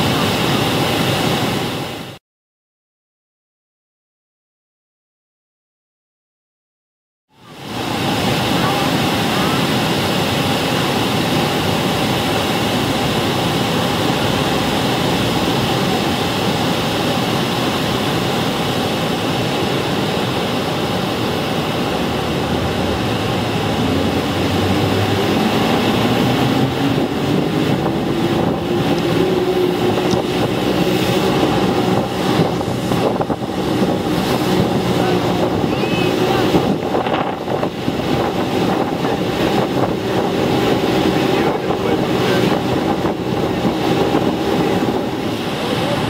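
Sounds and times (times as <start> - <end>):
waterfall and rapids rushing: 0.0 - 2.2, 7.4 - 46.0
boat motor: 7.4 - 46.0
wind buffeting microphone: 7.7 - 46.0.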